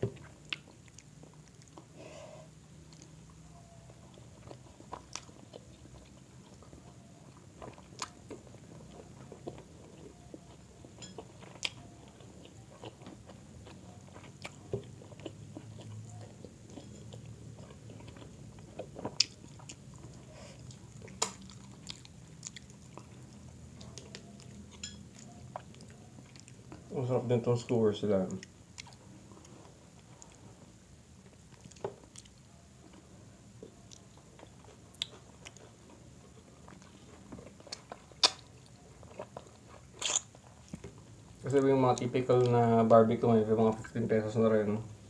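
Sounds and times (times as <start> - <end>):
low steady hum: 0.0 - 45.0
chewing and wet mouth smacks: 0.2 - 2.0, 2.8 - 26.9, 28.2 - 30.4, 31.1 - 33.0, 33.6 - 42.6.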